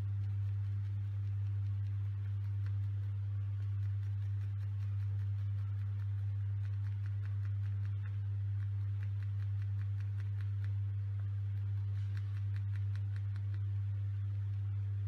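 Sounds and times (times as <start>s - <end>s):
loud low hum: 0.0s - 15.0s.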